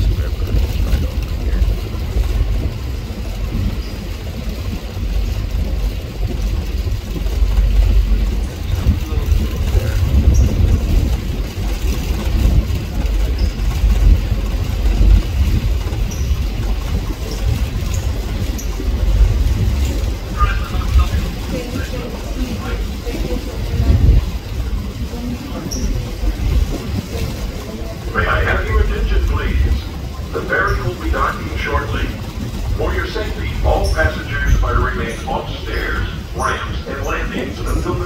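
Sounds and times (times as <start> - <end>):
low ferry rumble: 0.0 - 38.0.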